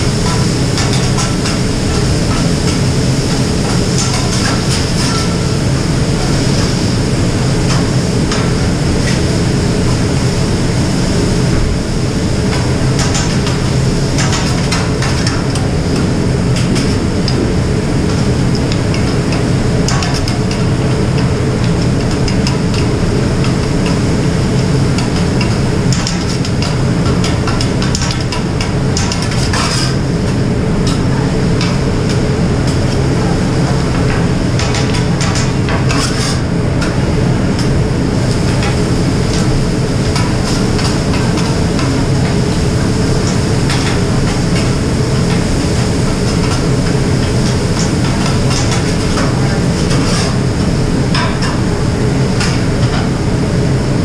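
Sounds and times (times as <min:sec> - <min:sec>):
kitchen exhaust hood rushing: 0:00.0 - 0:54.0.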